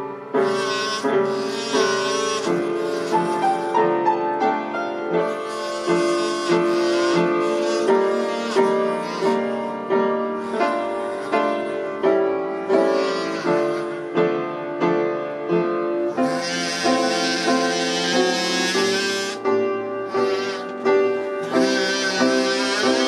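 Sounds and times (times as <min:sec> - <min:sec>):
buzzy kazoo melody: 0:00.2 - 0:14.8, 0:15.9 - 0:23.0.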